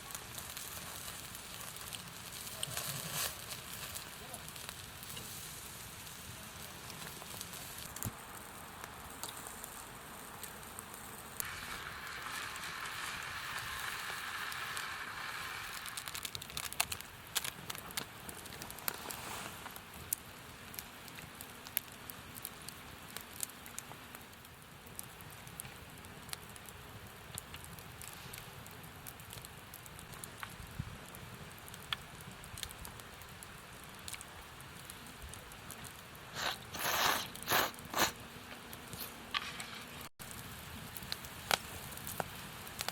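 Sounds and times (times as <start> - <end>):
campfire crackling: 0.0 - 42.9
steady hiss: 0.0 - 42.9.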